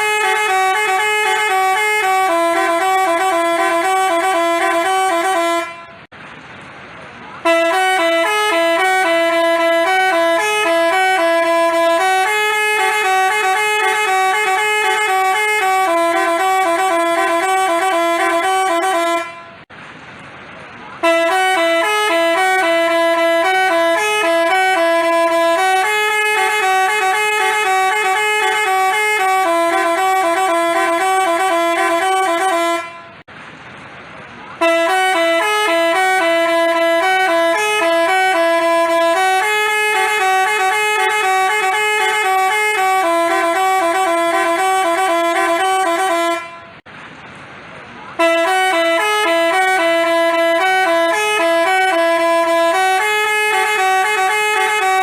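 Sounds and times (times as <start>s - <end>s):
multi-tone bus horn tune: 0.0s - 6.3s, 7.2s - 19.7s, 20.9s - 33.3s, 34.5s - 46.9s, 48.1s - 55.0s.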